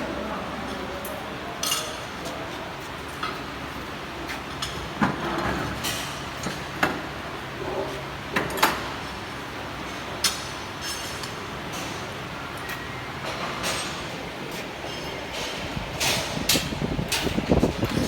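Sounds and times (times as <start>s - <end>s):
workshop background noise: 0.0s - 18.0s.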